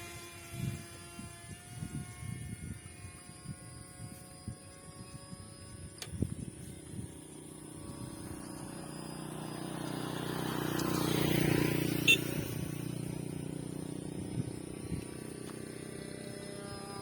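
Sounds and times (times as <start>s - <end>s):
model airplane propeller buzzing: 0.0s - 17.0s.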